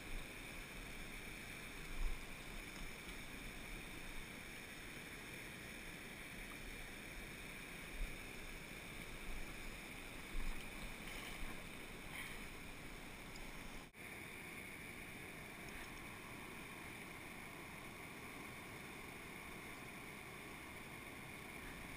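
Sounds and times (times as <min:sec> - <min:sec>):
stream running over rocks: 0:00.0 - 0:21.9.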